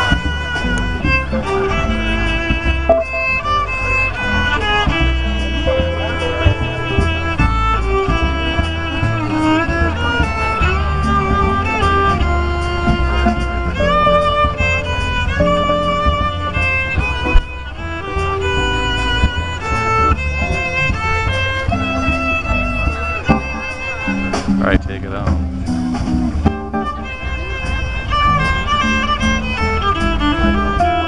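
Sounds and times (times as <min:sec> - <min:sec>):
bass notes: 0:00.0 - 0:31.0
jazz violin melody: 0:00.0 - 0:31.0.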